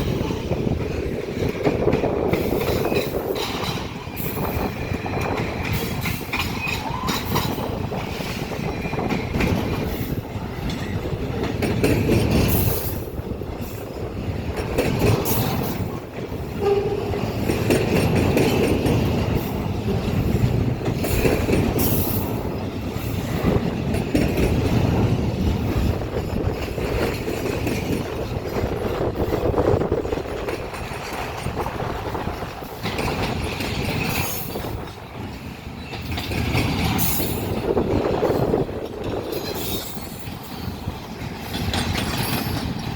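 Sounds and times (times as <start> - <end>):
train wheels clacking over rail joints: 0.0 - 42.9.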